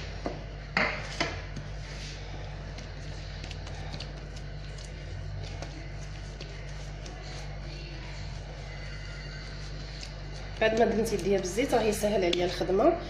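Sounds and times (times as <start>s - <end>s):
soft dough handling: 0.0s - 12.9s
steady low hum: 0.0s - 13.0s.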